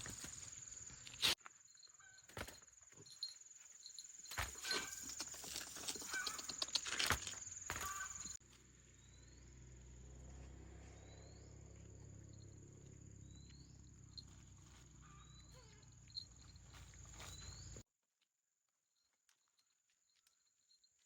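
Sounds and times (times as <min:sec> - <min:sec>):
cricket trill: 0:00.0 - 0:17.8.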